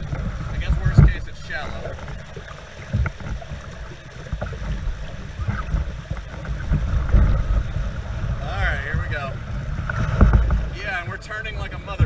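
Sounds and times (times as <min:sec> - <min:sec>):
water rushing in rapids: 0:00.0 - 0:12.0
wind buffeting microphone: 0:00.0 - 0:12.0.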